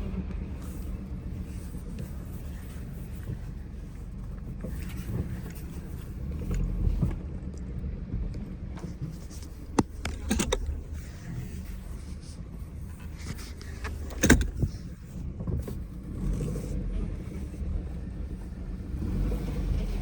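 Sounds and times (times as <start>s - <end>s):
car engine rumble: 0.0s - 20.0s.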